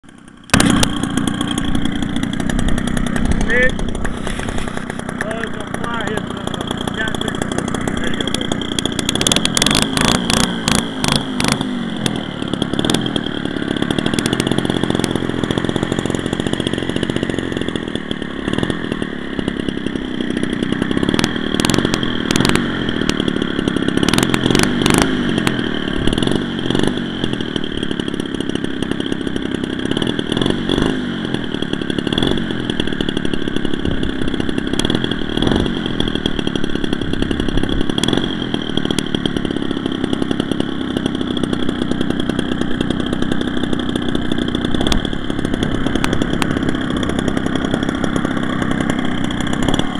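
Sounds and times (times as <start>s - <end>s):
engine crackle: 0.0s - 49.9s
model airplane engine buzzing: 0.0s - 49.9s.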